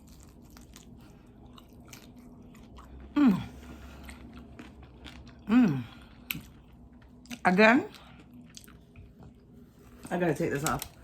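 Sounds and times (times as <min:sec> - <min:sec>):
chewing crispy chicken: 0:00.0 - 0:11.0.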